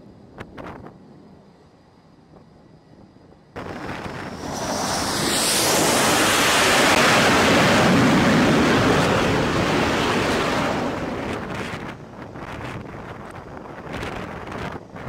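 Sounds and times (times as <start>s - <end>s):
jet landing: 0.0s - 15.0s.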